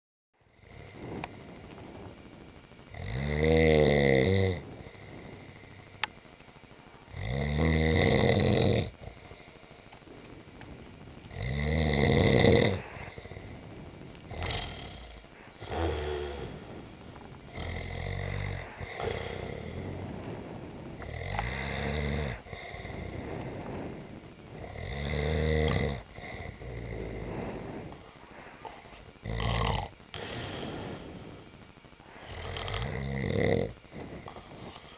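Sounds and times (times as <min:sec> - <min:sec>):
man snoring loudly: 0:00.5 - 0:01.2, 0:02.9 - 0:06.0, 0:07.1 - 0:09.6, 0:11.3 - 0:31.5, 0:32.1 - 0:34.9.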